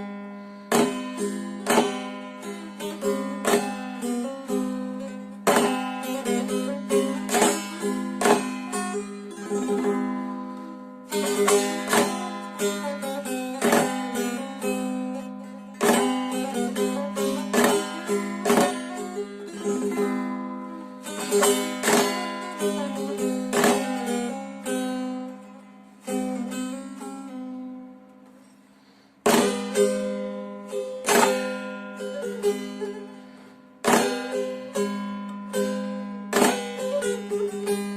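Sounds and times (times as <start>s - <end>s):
long-necked lute folk melody: 0.0s - 37.9s.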